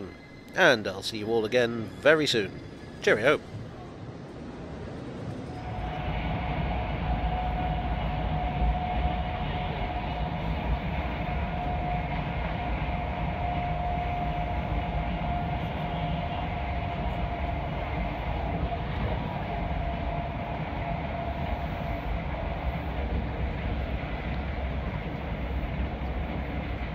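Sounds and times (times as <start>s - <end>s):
constant whine: 0.0s - 26.9s
train running rumble: 0.0s - 26.9s.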